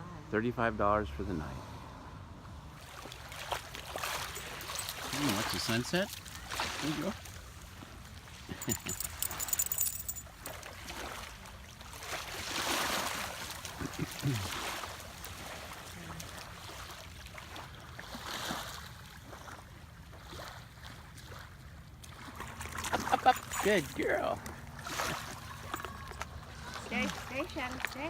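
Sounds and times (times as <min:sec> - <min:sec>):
small waves washing on a beach: 0:02.6 - 0:28.0.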